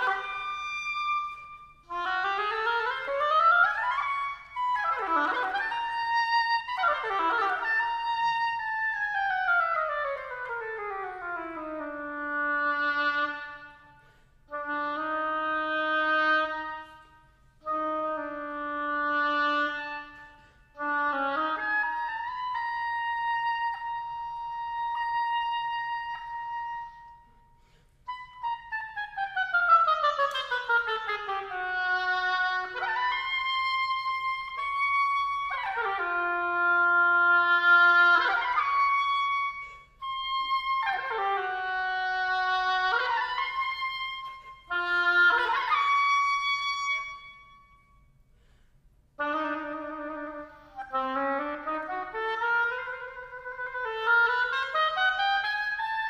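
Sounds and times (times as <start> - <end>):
solo wind instrument playing: 0.0 - 48.6, 49.2 - 56.0.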